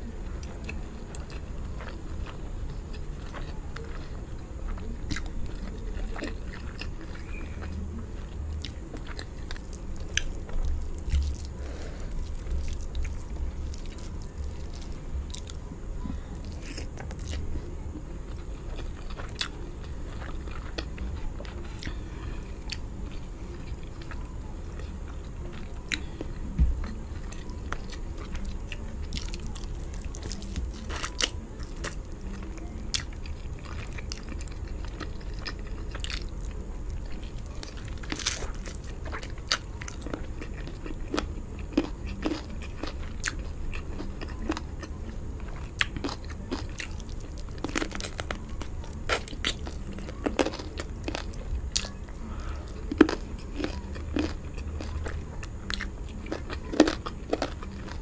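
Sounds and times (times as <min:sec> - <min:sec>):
person chewing meat: 0:00.3 - 0:58.0.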